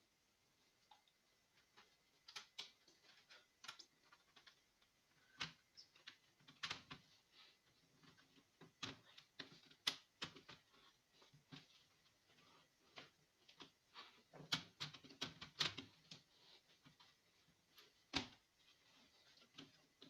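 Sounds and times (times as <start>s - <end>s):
light clicks and taps: 0.8s - 20.0s.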